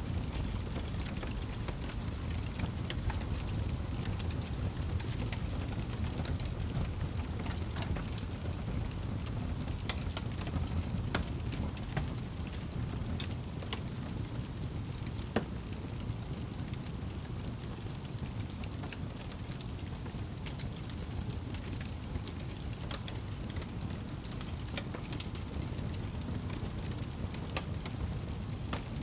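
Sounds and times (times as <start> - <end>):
steady rain: 0.0 - 29.0
wood fire crackling and popping: 0.0 - 29.0.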